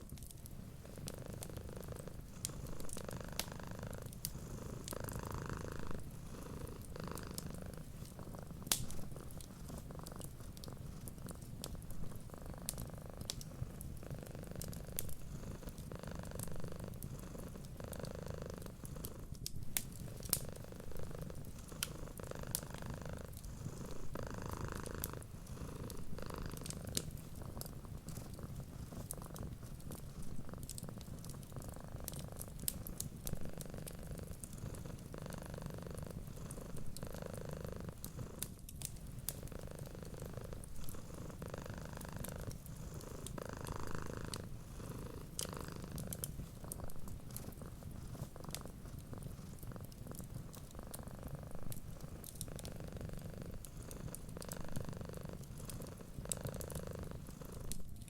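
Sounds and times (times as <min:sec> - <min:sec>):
cat purring: 0:00.0 - 0:58.0
wood fire crackling and popping: 0:00.0 - 0:58.0.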